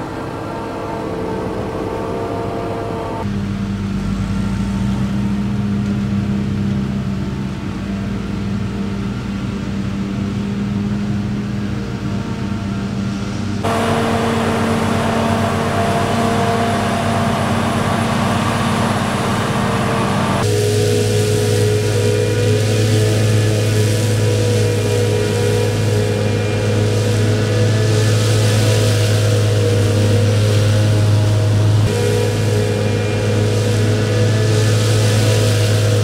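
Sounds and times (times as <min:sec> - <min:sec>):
hissing engine: 0:00.0 - 0:36.0
tractor diesel engines running: 0:00.0 - 0:36.0.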